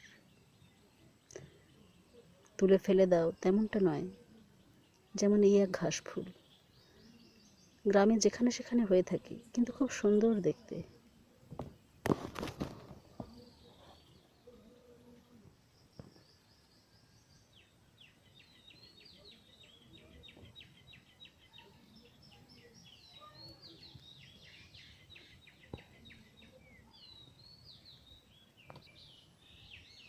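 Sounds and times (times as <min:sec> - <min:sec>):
faint birdsong chirping: 0:00.0 - 0:30.0.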